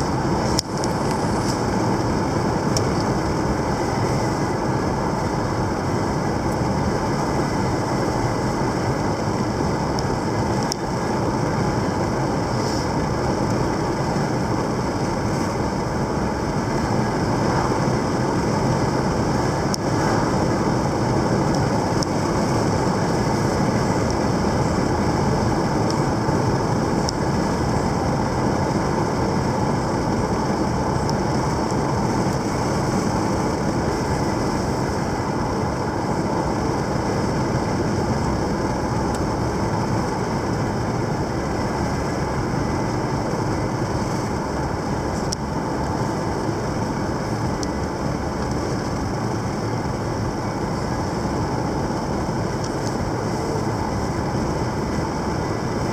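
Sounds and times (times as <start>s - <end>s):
car engine running: 0.0s - 55.9s
tyres on asphalt: 0.0s - 55.9s.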